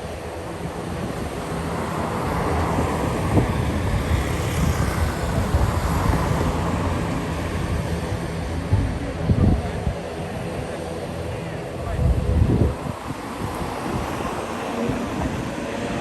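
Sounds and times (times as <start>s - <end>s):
turboprop engines droning: 0.0s - 16.0s
wind buffeting microphone: 0.0s - 16.0s.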